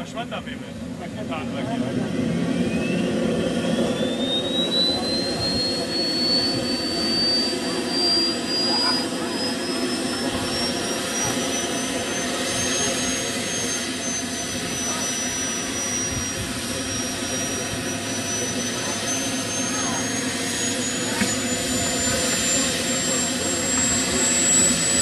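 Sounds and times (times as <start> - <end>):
jet turbine roar and whine: 0.0 - 25.0.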